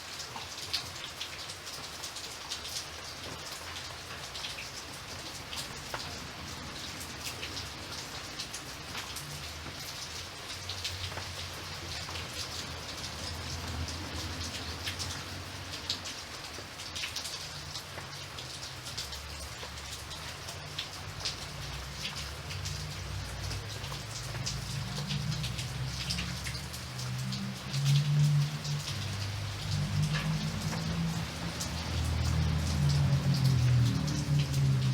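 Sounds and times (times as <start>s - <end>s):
steady rain with drops: 0.0s - 34.9s.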